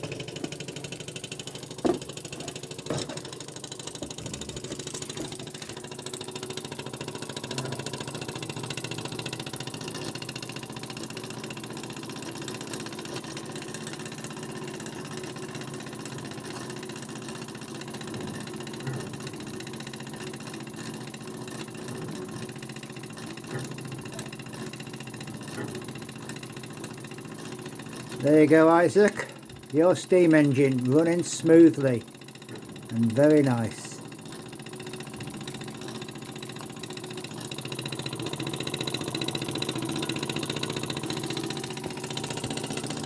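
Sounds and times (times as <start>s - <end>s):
model steam engine running: 0.0s - 43.0s.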